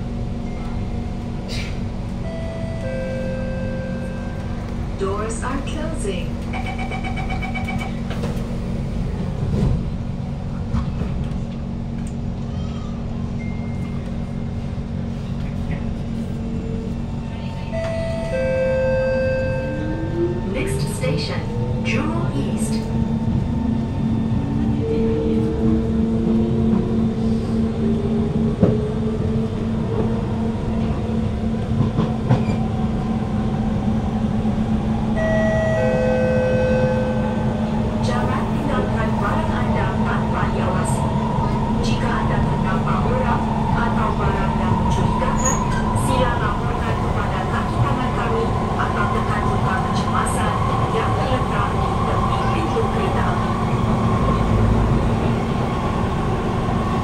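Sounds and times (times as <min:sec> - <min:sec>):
train equipment humming: 0:00.0 - 0:57.0
wheels rumbling on rail: 0:00.0 - 0:57.0.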